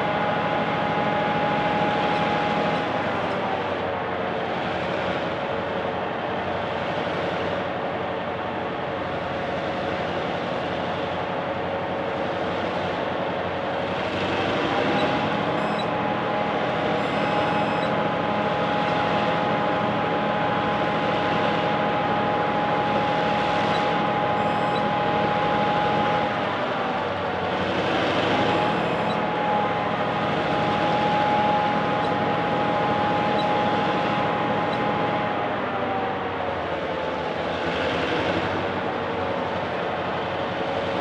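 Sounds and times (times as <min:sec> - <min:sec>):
diesel locomotives running hard: 0:00.0 - 0:41.0.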